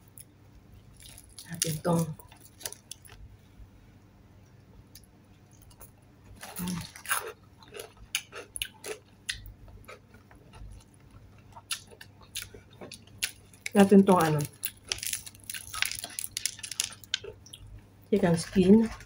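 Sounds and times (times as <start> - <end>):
crunchy chewing: 0.9 - 3.3, 5.0 - 19.0.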